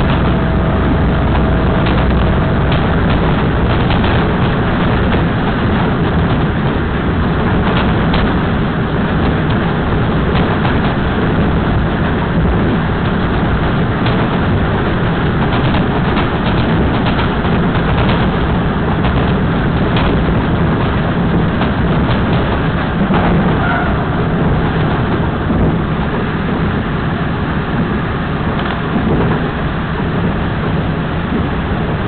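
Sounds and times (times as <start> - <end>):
railcar engine rumbling: 0.0 - 32.0.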